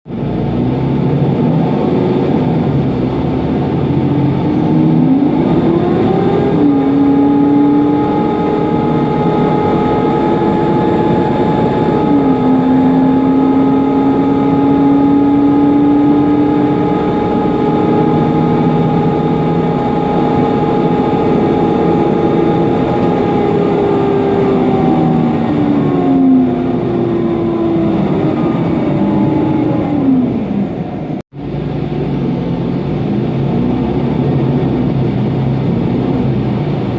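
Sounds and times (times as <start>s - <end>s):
bus engine running: 0.0s - 36.9s
whining cooling fan: 0.1s - 36.9s.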